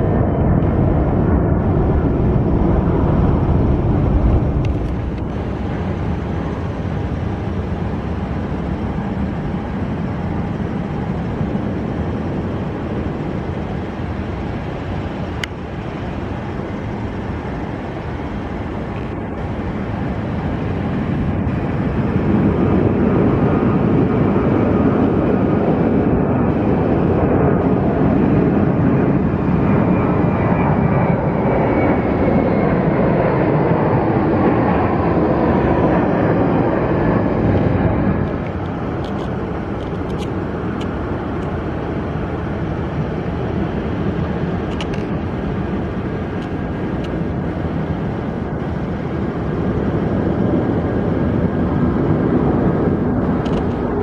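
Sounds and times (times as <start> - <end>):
jet airliner engines: 0.0 - 54.0.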